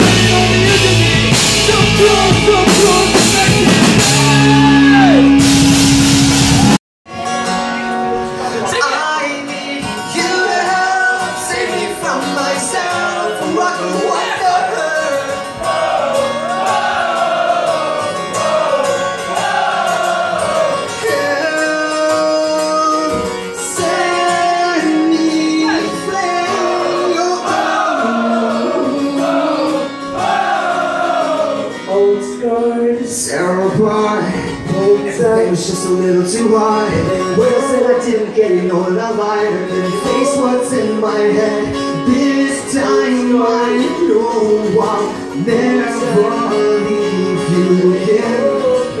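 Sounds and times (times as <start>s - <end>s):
man singing into microphone: 0.0s - 5.3s, 8.4s - 15.8s, 17.8s - 30.0s, 31.6s - 49.0s
live band playing: 0.0s - 49.0s.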